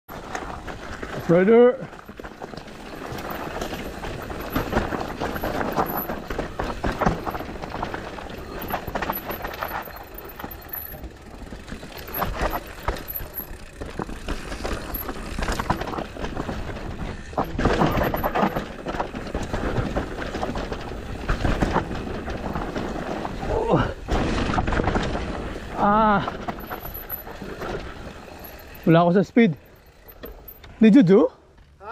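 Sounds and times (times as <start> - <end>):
bike rattling over bumps: 0.1 - 31.8
bike tyres on dirt: 0.1 - 31.9.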